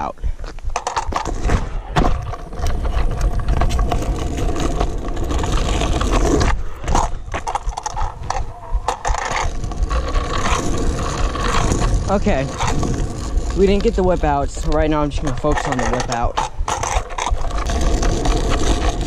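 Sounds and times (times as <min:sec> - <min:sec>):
scooter wheels rolling on asphalt: 0:00.0 - 0:19.0
wind on microphone: 0:00.0 - 0:19.0.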